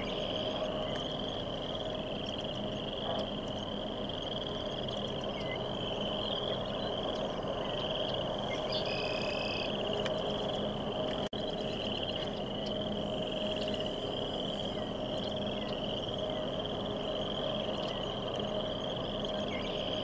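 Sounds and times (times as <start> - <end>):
frogs trilling: 0.0 - 20.0
low steady hum: 0.0 - 20.0.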